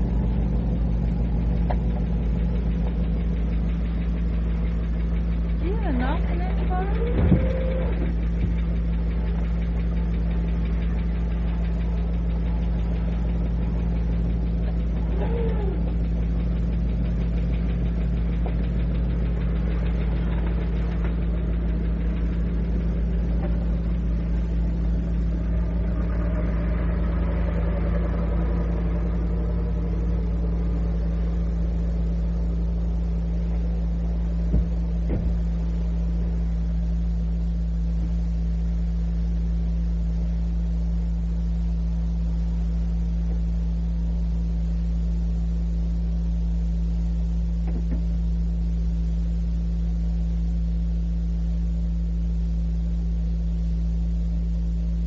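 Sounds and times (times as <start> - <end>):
low mechanical hum and rumble: 0.0 - 55.0.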